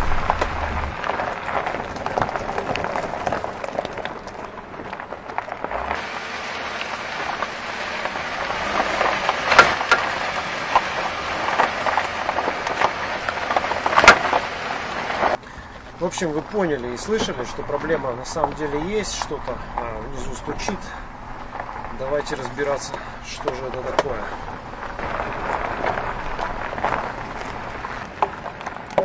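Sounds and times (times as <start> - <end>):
rough road noise: 0.0 - 29.0.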